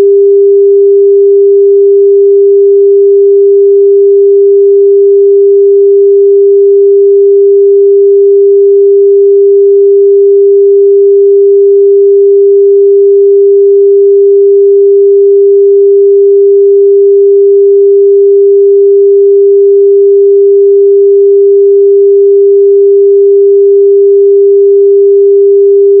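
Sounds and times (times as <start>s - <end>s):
steady electronic sine tone: 0.0s - 26.0s.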